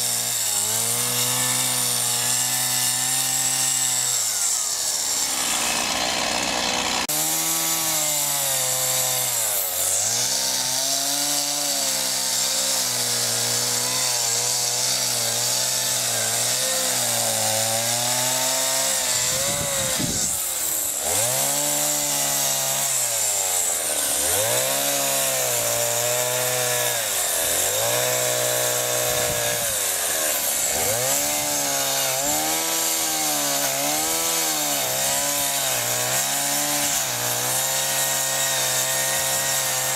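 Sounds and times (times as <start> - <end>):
chainsaw carving wood: 0.0 - 39.9.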